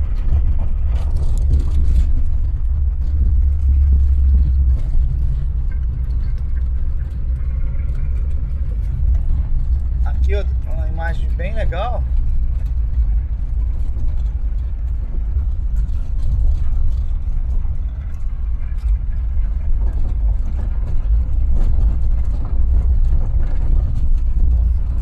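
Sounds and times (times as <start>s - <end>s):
van engine and road rumble: 0.0s - 25.0s.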